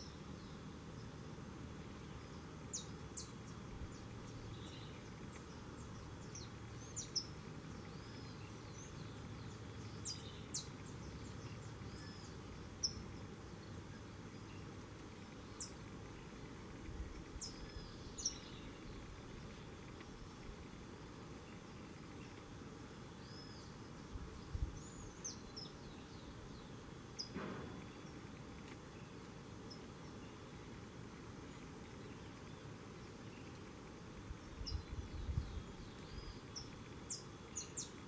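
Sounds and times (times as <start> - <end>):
faint steady background noise: 0.0 - 38.0
birds chip calls: 2.0 - 24.0, 24.8 - 38.0.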